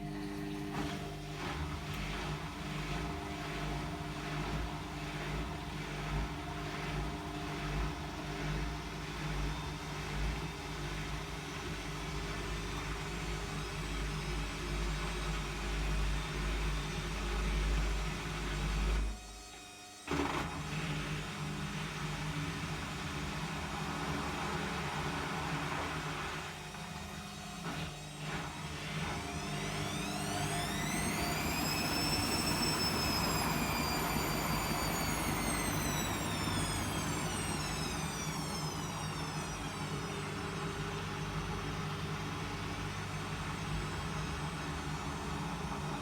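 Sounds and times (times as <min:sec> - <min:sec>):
washing machine motor hum: 0:00.0 - 0:19.0, 0:20.2 - 0:46.0.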